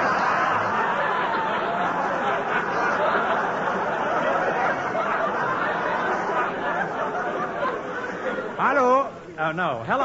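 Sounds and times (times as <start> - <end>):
studio audience laughing: 0.0 - 8.7.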